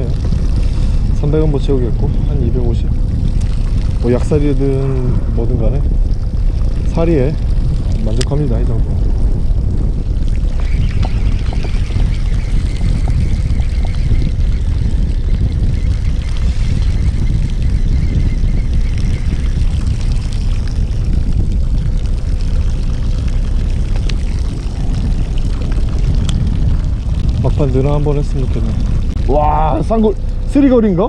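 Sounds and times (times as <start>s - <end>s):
boat engine rumbling: 0.0s - 31.0s
faint steady whine: 0.0s - 31.0s.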